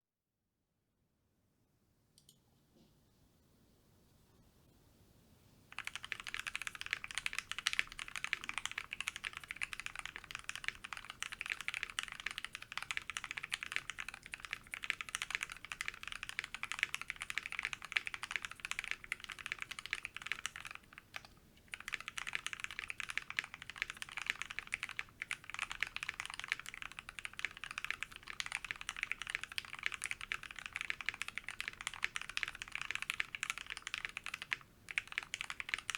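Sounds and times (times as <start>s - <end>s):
typing on mechanical keyboard: 5.7s - 35.9s.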